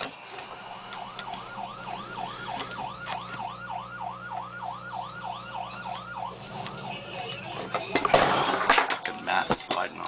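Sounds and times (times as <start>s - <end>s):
emergency siren yelping: 0.0s - 9.5s
steady low hum: 0.0s - 10.0s.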